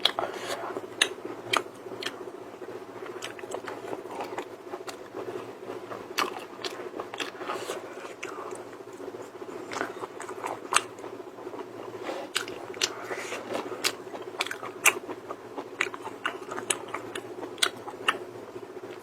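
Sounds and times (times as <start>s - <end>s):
person chewing crunchy food: 0.0s - 2.2s, 3.0s - 5.3s, 5.9s - 18.2s
steady low hum: 0.0s - 19.0s.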